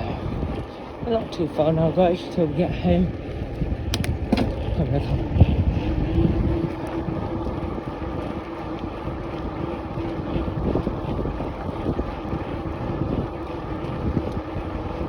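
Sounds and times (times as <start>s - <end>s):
low rumble of riding: 0.0s - 15.0s
wind rushing over microphone: 0.0s - 15.0s.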